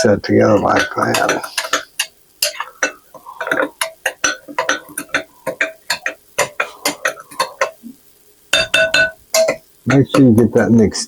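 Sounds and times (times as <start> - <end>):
spoon scraping bowl: 0.0 - 7.8, 8.6 - 10.4.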